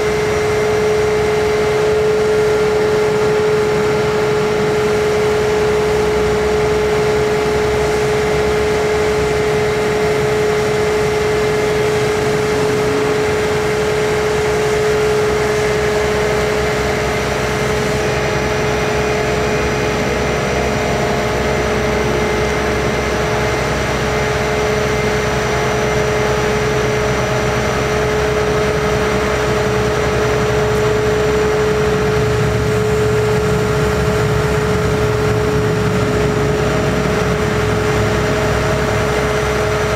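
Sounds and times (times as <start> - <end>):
diesel engine rumble: 0.0 - 39.9
hydraulic whine: 0.0 - 39.9.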